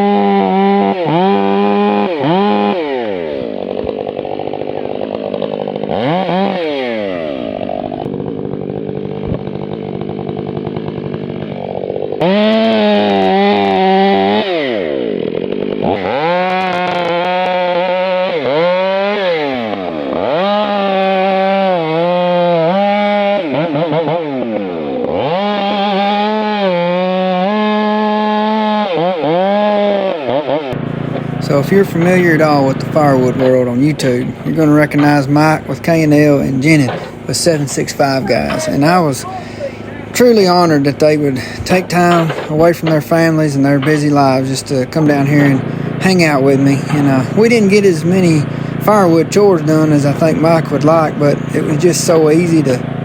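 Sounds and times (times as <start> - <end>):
chainsaw revving: 0.0 - 53.0
second chainsaw: 0.0 - 53.0.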